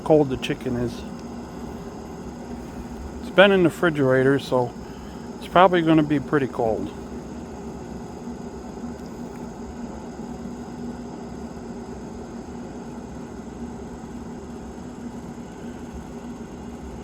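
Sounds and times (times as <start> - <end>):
smoker fan humming: 0.0 - 17.0.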